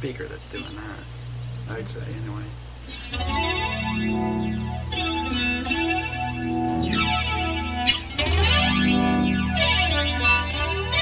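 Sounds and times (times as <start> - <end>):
amplifier low hum: 0.0 - 11.0
electric guitar chords and notes: 0.5 - 11.0.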